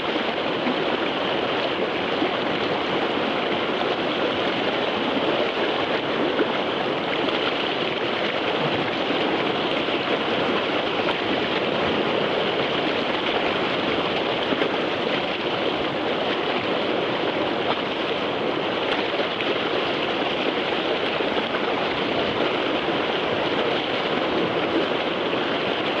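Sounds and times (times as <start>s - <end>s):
river rapid rushing: 0.0s - 26.0s.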